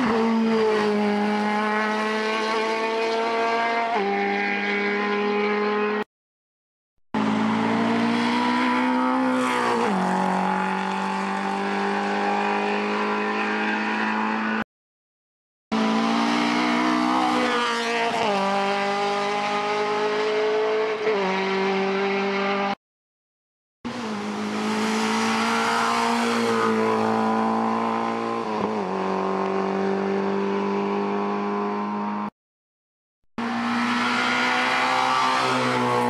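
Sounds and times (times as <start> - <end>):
race car engines at full throttle: 0.0 - 6.0, 7.2 - 14.6, 15.7 - 22.8, 23.9 - 32.3, 33.4 - 36.0.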